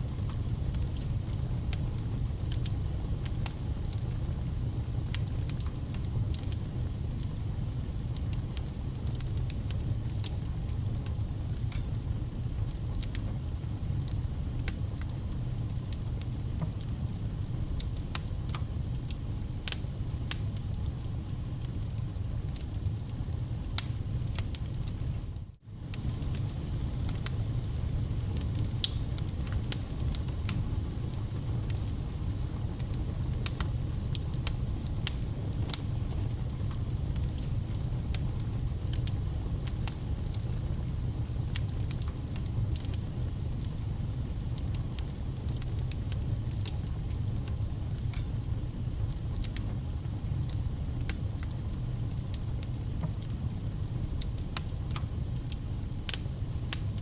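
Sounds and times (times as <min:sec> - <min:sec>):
fire flames rumbling: 0:00.0 - 0:57.0
firewood crackling and popping: 0:00.0 - 0:57.0.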